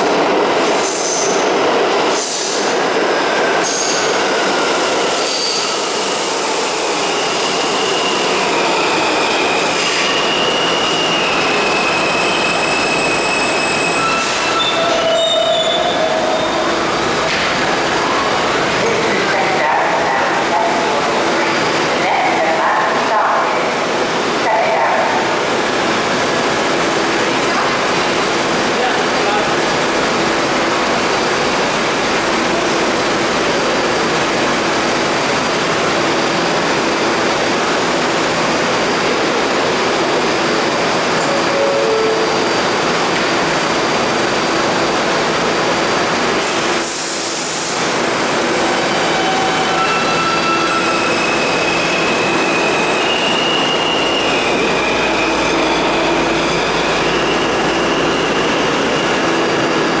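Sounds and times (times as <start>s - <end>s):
subway train humming: 0.0s - 60.0s.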